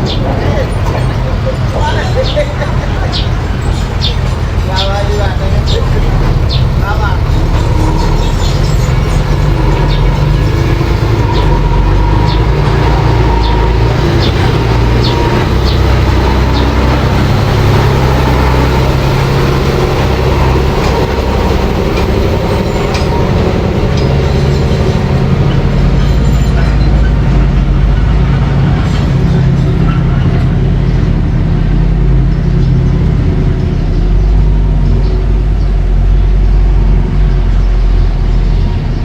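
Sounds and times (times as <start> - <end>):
metallic clanks from tracks: 0.0 - 39.0
mini bulldozer engine hum: 0.0 - 39.0.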